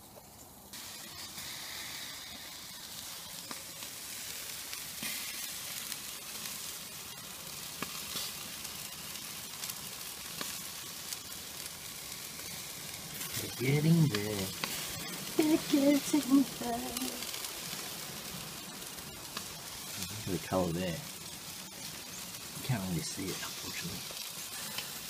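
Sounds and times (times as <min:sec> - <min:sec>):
chicken sizzling on grill: 0:00.0 - 0:25.0.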